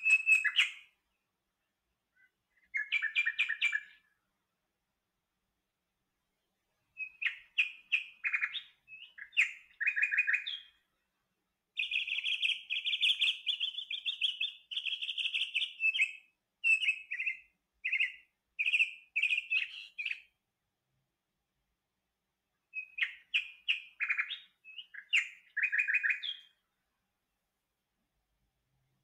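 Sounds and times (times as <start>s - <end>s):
songbird singing: 0.0s - 20.7s, 21.3s - 29.0s.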